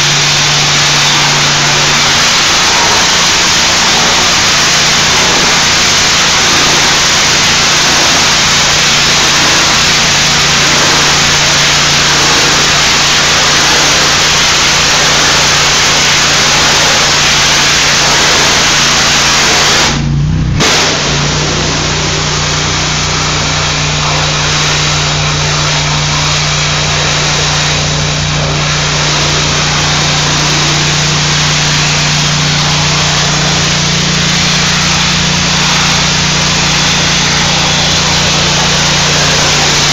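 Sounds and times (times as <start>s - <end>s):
hiss of spraying water: 0.0s - 20.0s, 20.6s - 39.9s
pressure washer engine drone: 0.0s - 39.9s.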